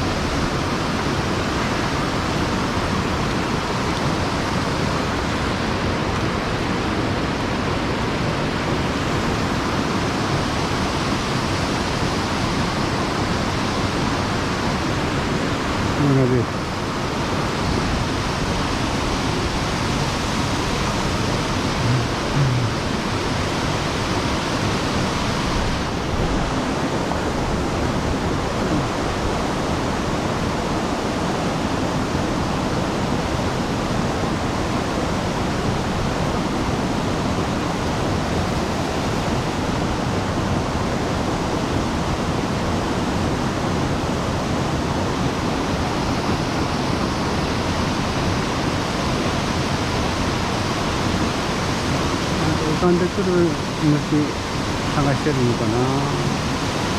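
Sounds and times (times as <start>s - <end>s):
water rushing over dam: 0.0s - 56.9s.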